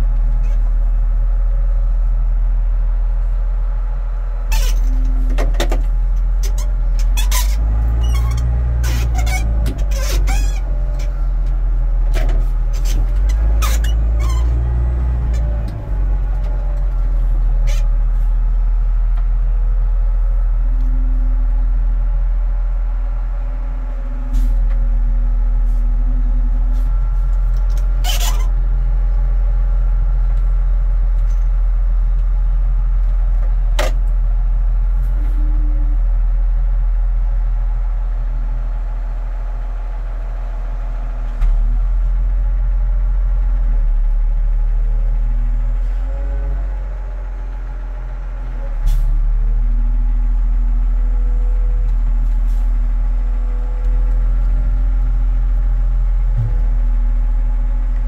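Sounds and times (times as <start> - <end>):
engine running heard from cab: 0.0 - 58.0.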